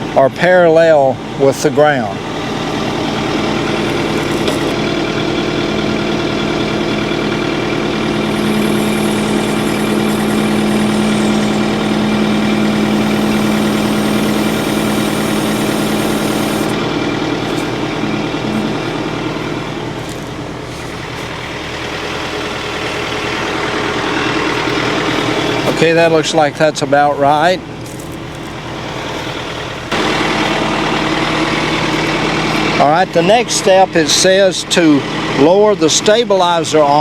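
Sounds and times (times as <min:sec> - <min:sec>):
hydraulics humming: 0:00.0 - 0:37.0
tractor engine running: 0:00.0 - 0:37.0.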